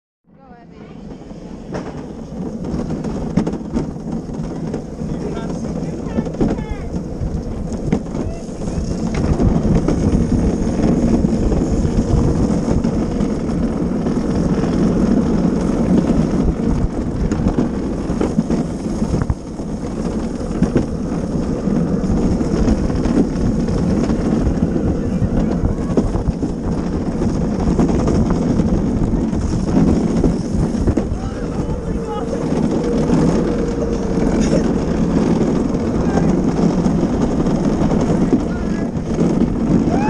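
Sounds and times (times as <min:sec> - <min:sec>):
cart wheels rolling on concrete: 0:00.3 - 0:40.0
wind buffeting microphone: 0:00.4 - 0:40.0.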